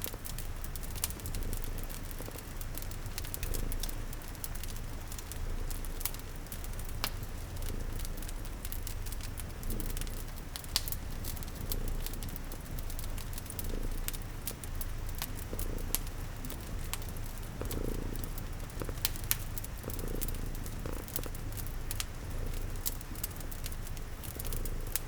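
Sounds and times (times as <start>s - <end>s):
cat purring: 0.0s - 25.0s
rain hissing softly: 0.0s - 25.0s
wood fire crackling: 0.0s - 25.0s.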